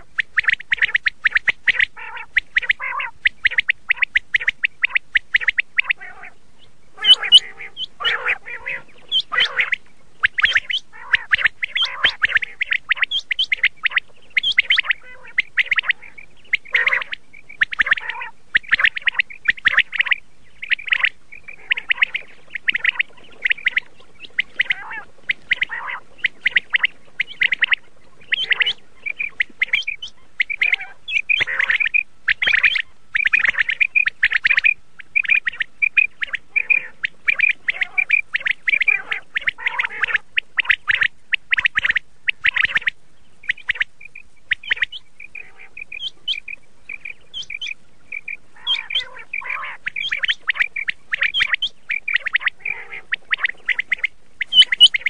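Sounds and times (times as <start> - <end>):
quail chirping calls: 0.0 - 55.0.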